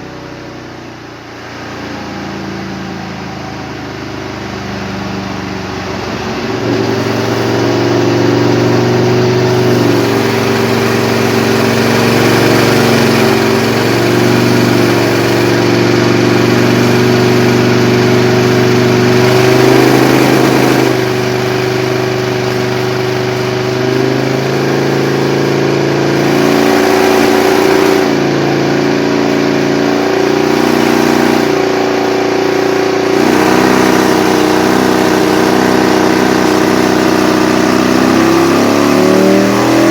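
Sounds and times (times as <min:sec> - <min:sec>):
loud motorcycle engine running: 0:00.0 - 0:39.9.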